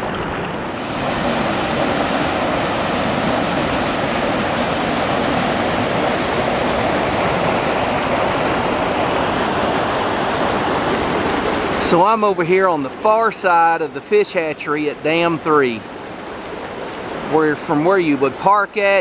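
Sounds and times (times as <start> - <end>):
water rushing and churning: 0.0 - 19.0.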